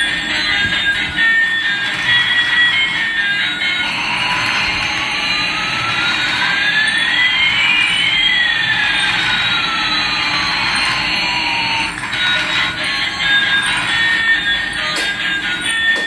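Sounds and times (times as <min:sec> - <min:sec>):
jet engine rushing with whines: 0:00.0 - 0:16.0.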